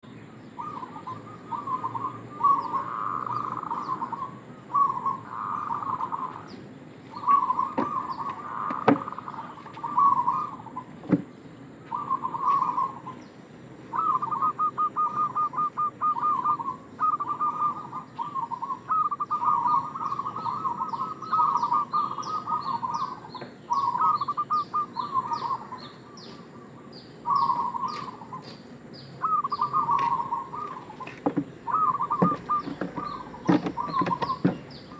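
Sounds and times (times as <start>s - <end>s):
dove cooing: 0.6s - 34.9s.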